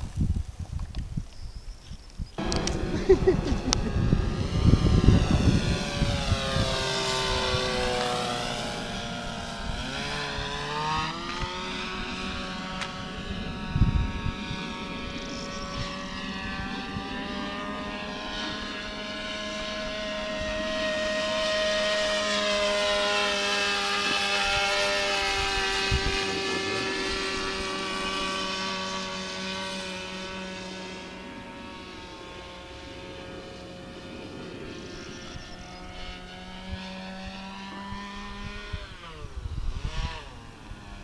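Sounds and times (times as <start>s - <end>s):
model airplane motor droning: 0.0s - 41.0s.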